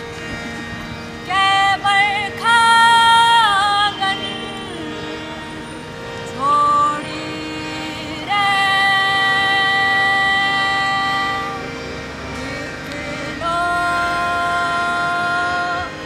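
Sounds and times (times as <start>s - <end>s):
harmonium tones: 0.0s - 16.0s
person singing long held notes: 1.2s - 16.0s.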